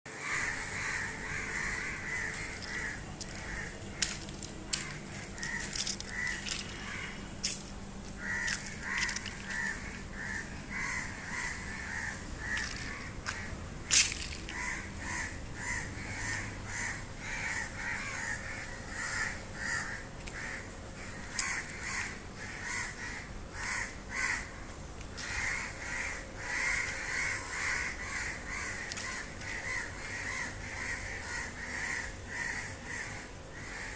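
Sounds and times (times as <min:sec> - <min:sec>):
crows cawing: 0:00.1 - 0:33.9.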